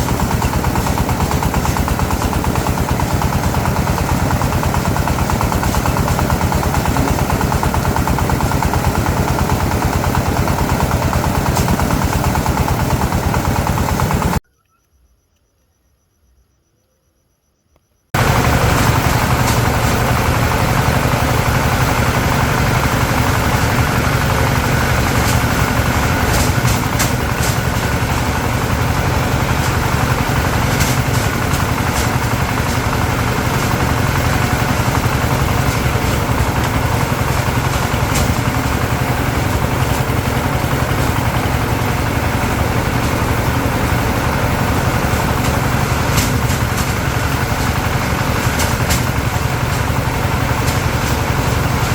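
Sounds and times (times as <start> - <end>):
engine running: 0.0 - 14.4, 18.2 - 51.9.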